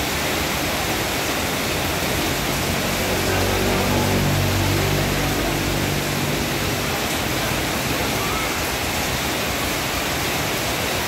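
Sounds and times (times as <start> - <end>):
heavy rain on street: 0.0 - 11.0.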